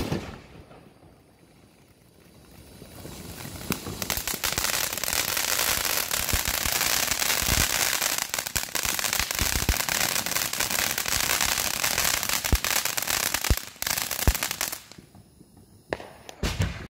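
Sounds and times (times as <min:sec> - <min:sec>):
firework fountain hissing and crackling: 0:00.0 - 0:16.9.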